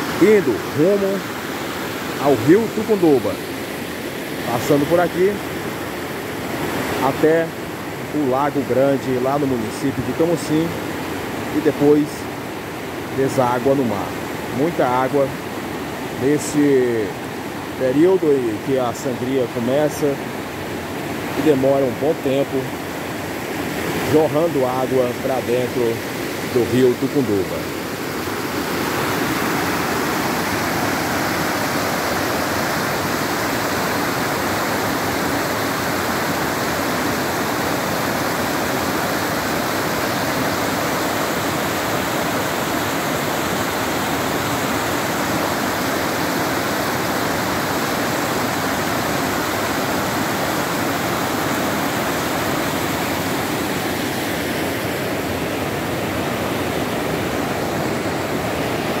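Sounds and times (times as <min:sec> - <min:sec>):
water rushing over spillway: 0:00.0 - 0:59.0.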